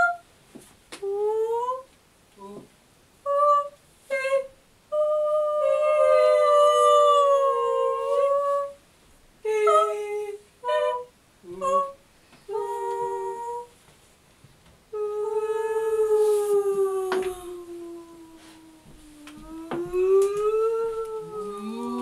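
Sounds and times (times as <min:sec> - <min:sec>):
women singing held notes: 0:00.0 - 0:00.3, 0:00.9 - 0:13.9, 0:14.9 - 0:22.0.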